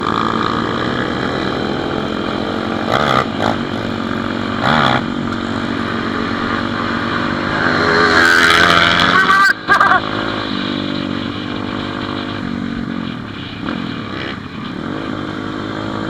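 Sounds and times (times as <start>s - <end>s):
pit bike engine running: 0.0s - 16.0s.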